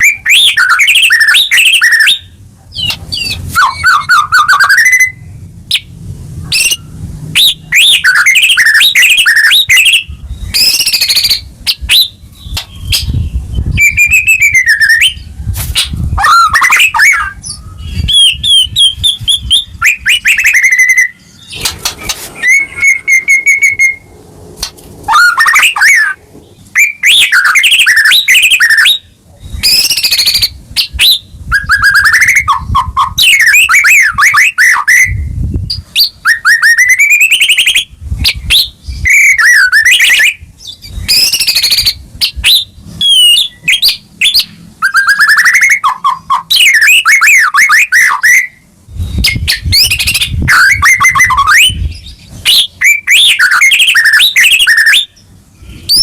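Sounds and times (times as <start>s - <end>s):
bird singing whistles and trills: 0.0s - 24.1s, 25.1s - 56.0s.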